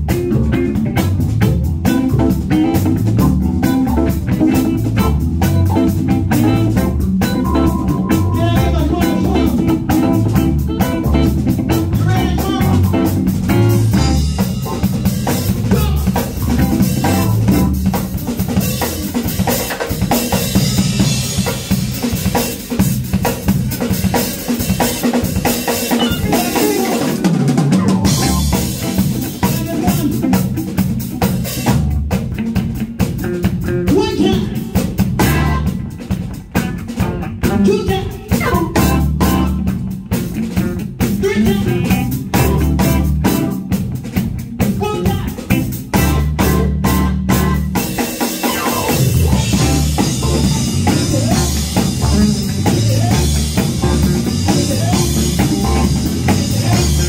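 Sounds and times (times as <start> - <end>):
bass guitar: 0.0 - 57.0
drum kit: 0.0 - 57.0
live band playing: 0.0 - 57.0.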